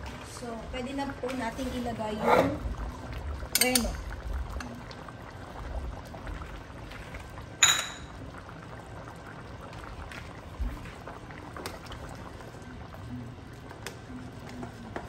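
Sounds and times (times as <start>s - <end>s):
stew simmering and bubbling: 0.0s - 15.0s.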